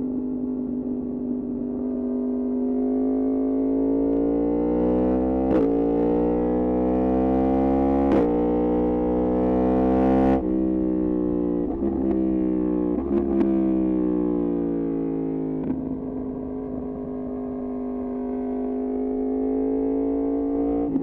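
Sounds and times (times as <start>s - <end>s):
motorcycle engine revving: 1.5s - 14.0s, 15.6s - 21.0s.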